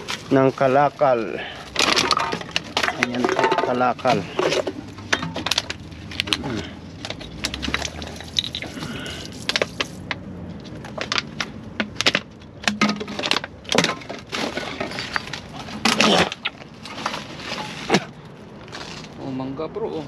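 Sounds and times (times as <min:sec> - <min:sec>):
plastic bottles and bags crinkling: 0:00.0 - 0:19.3.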